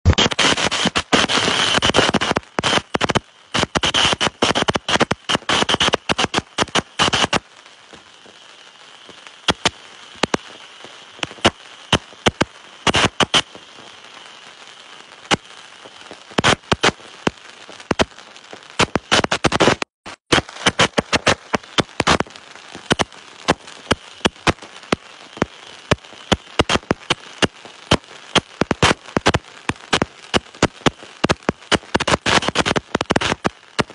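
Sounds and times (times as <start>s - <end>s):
fireworks crackling: 0.0s - 33.9s
steady hiss: 0.2s - 33.9s.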